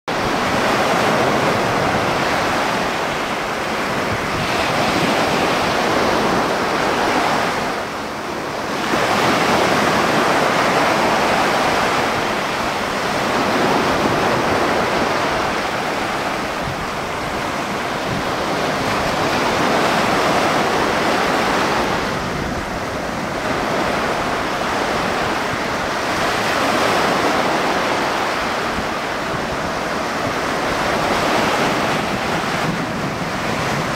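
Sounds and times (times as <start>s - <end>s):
surf breaking on shore: 0.1s - 33.9s
wind buffeting microphone: 0.1s - 33.9s.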